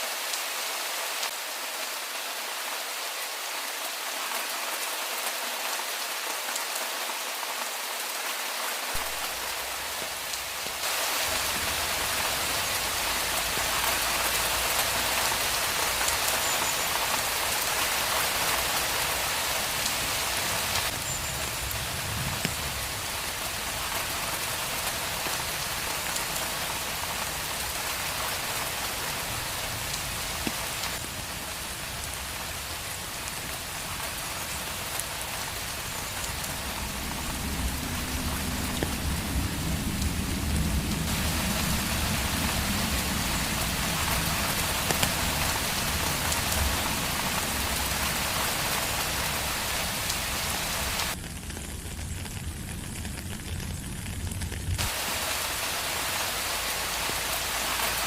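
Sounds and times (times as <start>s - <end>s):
steady rain on a street: 0.0s - 58.0s.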